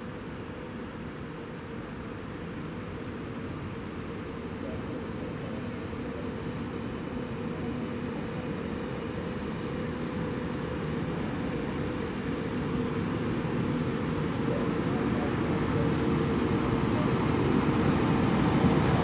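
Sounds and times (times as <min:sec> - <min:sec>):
electric locomotive humming: 0:00.0 - 0:19.0.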